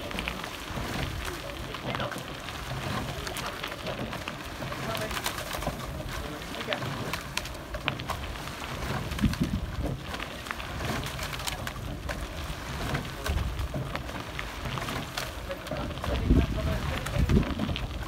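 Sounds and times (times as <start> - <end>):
oars splashing in water: 0.0 - 18.0.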